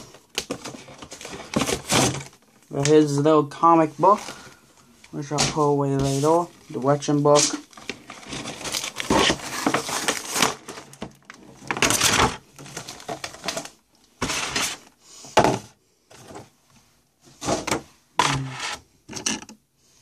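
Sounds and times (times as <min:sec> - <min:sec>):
cardboard and plastic rustling: 0:00.0 - 0:19.6.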